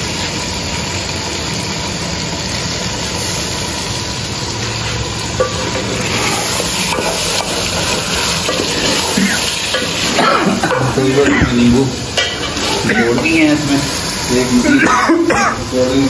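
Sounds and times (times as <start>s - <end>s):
curry sizzling in a pot: 0.0s - 16.0s.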